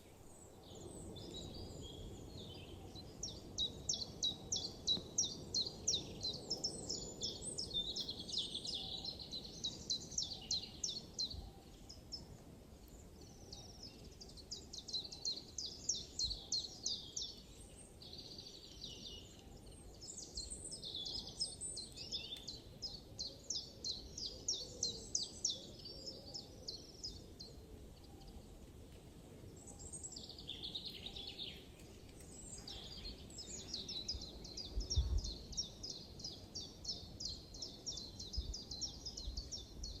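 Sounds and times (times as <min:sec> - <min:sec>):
songbirds singing: 0:00.0 - 0:40.0.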